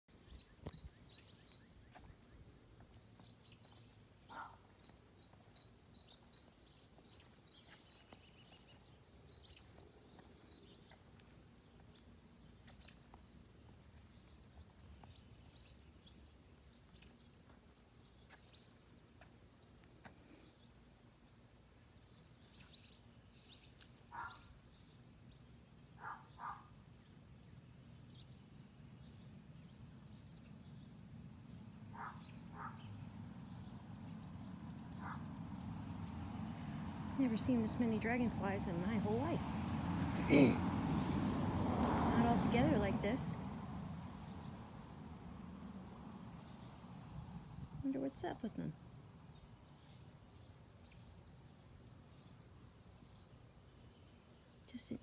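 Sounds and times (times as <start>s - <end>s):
crickets trilling: 0.1s - 55.0s.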